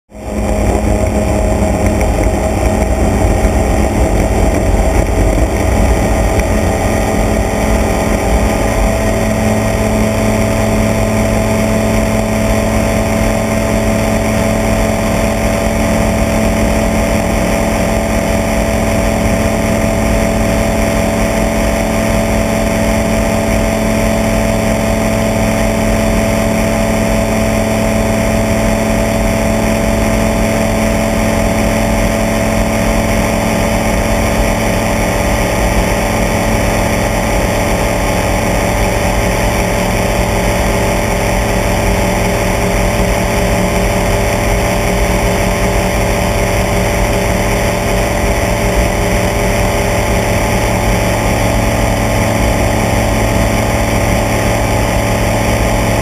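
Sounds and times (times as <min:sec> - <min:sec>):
propeller aircraft engine drone: 0:00.1 - 0:56.0
rough low rumble: 0:00.1 - 0:56.0.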